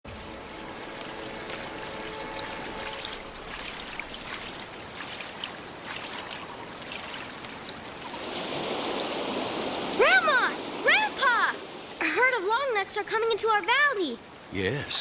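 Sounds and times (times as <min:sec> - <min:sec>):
stream trickling: 0:00.1 - 0:15.0.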